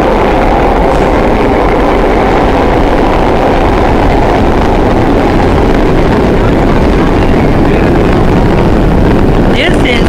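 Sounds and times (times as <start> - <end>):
subway train wheels on rails: 0.0 - 10.0.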